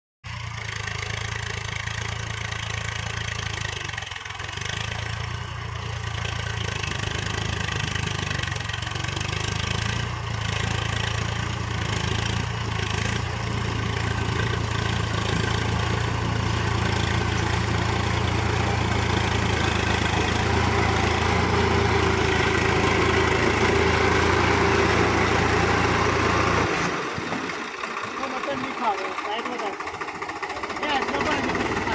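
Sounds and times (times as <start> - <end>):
tractor diesel engine running: 0.2 - 31.9.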